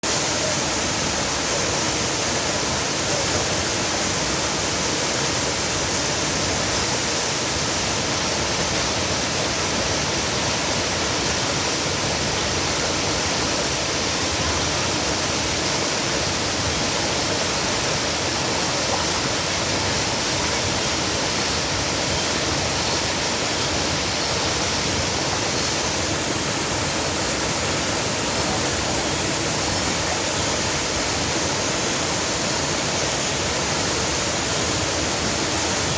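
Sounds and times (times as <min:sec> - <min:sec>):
rushing water roaring: 0:00.0 - 0:35.9.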